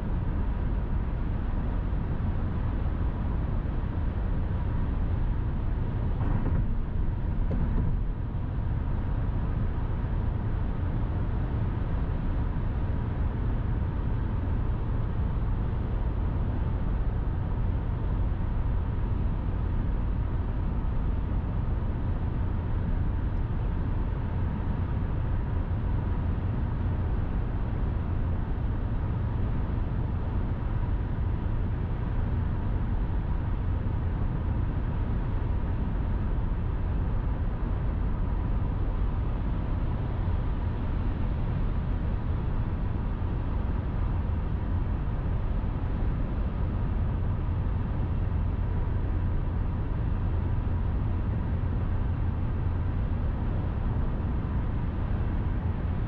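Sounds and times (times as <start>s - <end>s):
car road and tyre noise: 0.0s - 56.0s.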